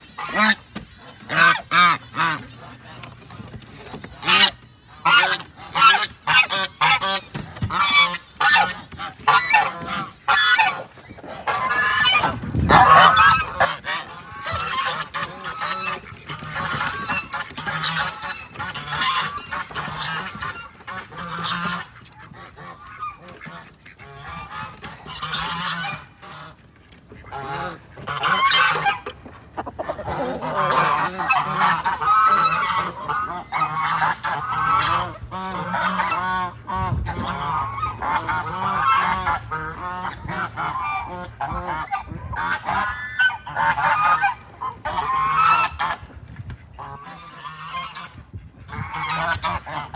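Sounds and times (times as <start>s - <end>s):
geese honking: 0.0s - 46.1s, 46.8s - 49.9s.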